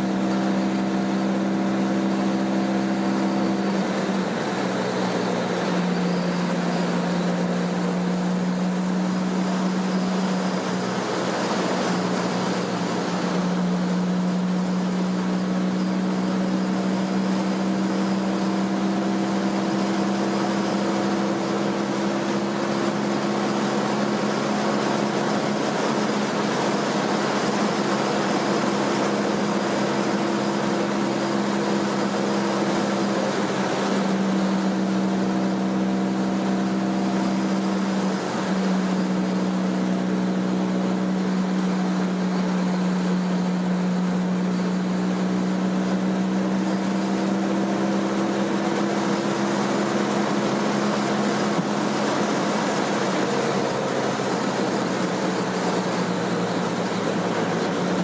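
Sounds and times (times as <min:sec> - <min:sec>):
car engine drone: 0:00.0 - 0:58.0
road noise: 0:00.0 - 0:58.0.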